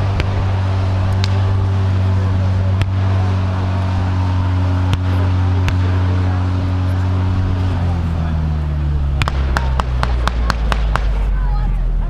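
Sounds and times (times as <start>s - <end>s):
tank engine humming: 0.0s - 12.0s.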